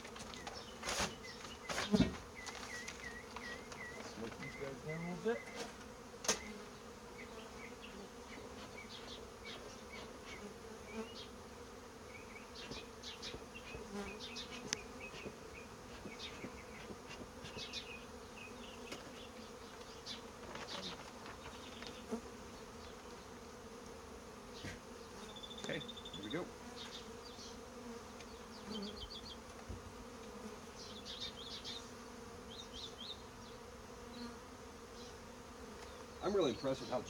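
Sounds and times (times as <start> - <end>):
honeybees buzzing: 0.0 - 37.0.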